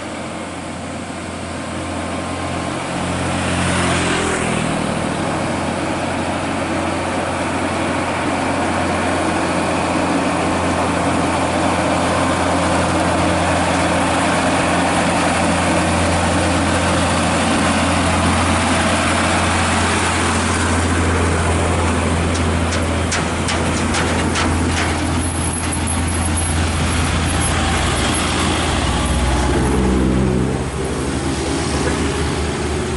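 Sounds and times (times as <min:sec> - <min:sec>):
truck diesel engine running: 0:00.0 - 0:32.9.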